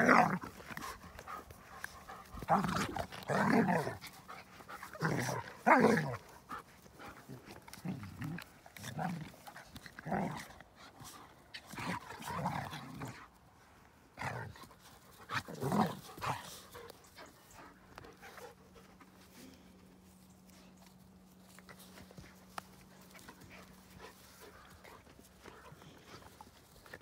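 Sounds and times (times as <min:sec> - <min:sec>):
dogs play-fighting: 0:00.0 - 0:27.0.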